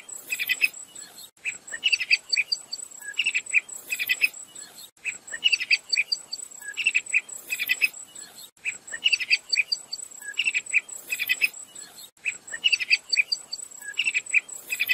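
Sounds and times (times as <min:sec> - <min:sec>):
bird high chirping notes: 0:00.2 - 0:14.9.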